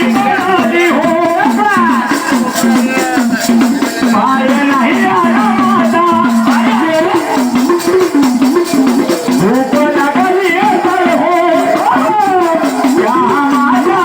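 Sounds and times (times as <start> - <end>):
jingling percussion: 0.0 - 14.0
person singing devotional song: 0.0 - 14.0.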